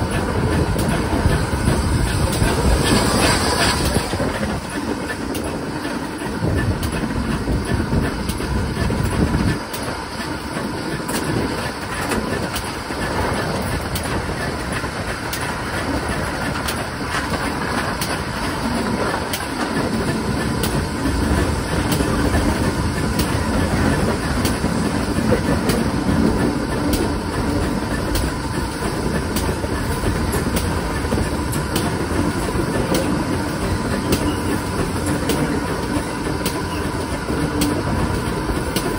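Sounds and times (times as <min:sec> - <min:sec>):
steam train rumbling: 0:00.0 - 0:38.9
wheels clicking over rail joints: 0:00.0 - 0:38.9.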